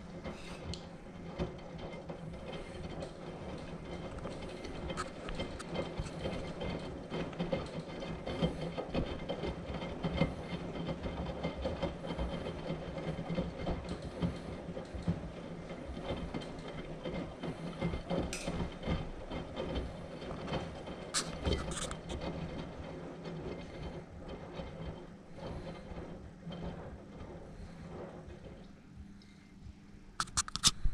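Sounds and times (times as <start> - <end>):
washing machine drum sloshing: 0.0 - 28.7
washing machine low hum: 0.0 - 30.9.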